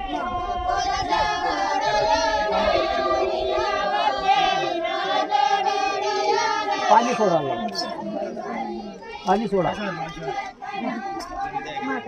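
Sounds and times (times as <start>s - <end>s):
group of voices singing: 0.0s - 12.0s.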